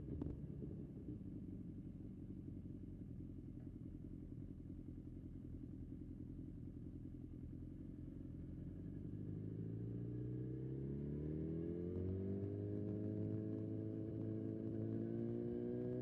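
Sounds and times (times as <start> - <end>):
motorcycle engine running: 0.0 - 10.3, 11.6 - 16.0.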